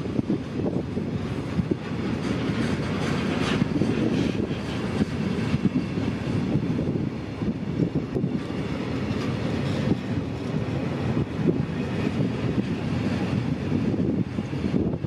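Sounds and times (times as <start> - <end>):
train rumbling on rails: 0.0 - 15.0
wheels clickety-clack: 0.0 - 15.0
wind buffeting microphone: 0.0 - 15.0.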